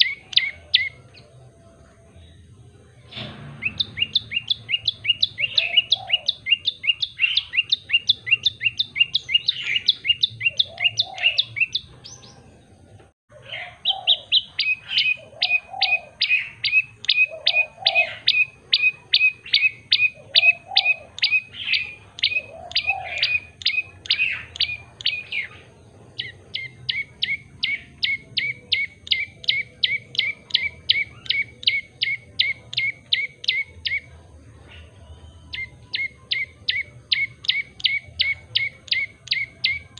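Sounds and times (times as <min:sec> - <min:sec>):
bird singing sharp repeated notes: 0:00.0 - 0:12.9, 0:13.8 - 0:39.9.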